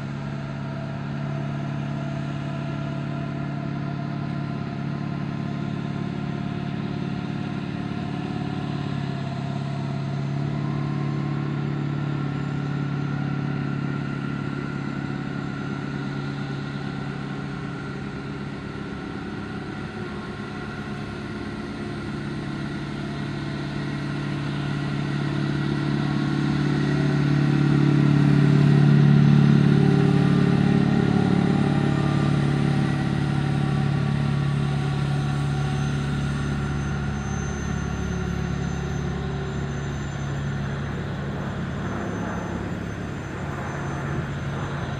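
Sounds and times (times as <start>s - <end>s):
tow tug engine humming: 0.0s - 44.9s.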